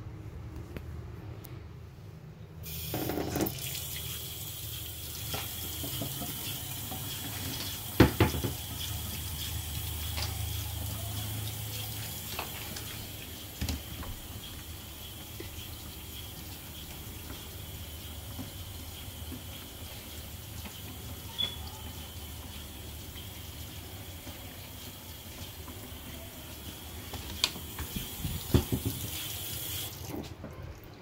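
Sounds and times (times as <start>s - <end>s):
faucet water splashing in sink: 2.6s - 30.4s.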